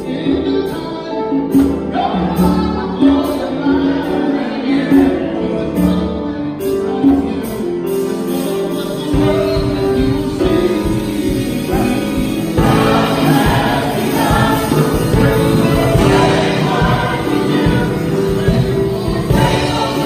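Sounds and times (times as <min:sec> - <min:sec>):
choir singing gospel: 0:00.0 - 0:20.0
man singing into microphone: 0:00.0 - 0:20.0.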